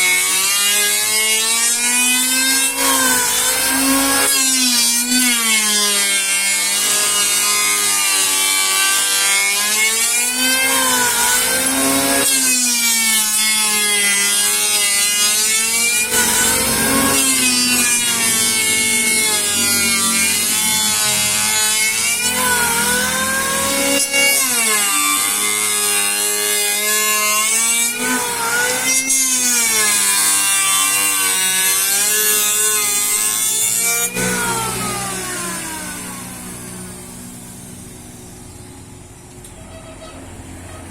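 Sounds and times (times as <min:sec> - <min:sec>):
sawmill saw whining through wood: 0:00.0 - 0:40.9.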